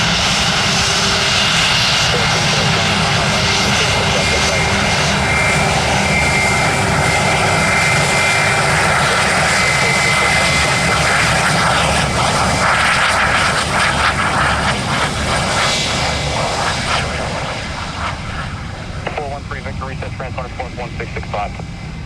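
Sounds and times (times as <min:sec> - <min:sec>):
high-pitched engine whine: 0:00.0 - 0:22.0
jet engines rushing: 0:00.0 - 0:22.0.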